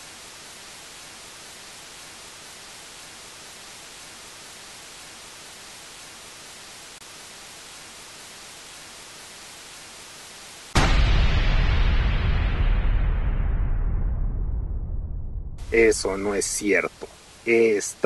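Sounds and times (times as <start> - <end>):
static hiss: 0.0 - 13.1, 15.6 - 18.0.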